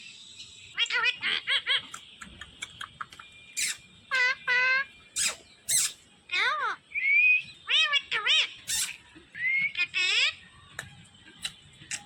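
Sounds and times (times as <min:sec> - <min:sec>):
parrot calling: 0:00.8 - 0:10.5.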